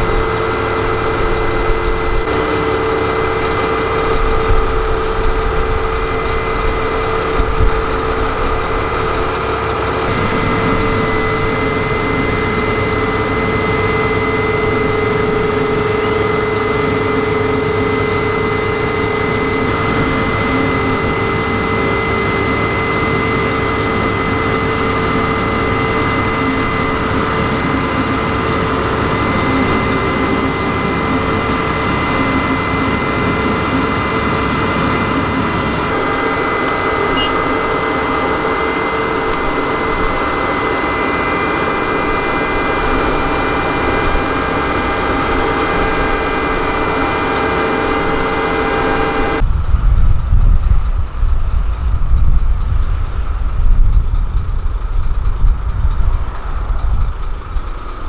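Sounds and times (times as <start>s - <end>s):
steady high tones: 0.0s - 49.4s
diesel engine running: 0.0s - 58.0s.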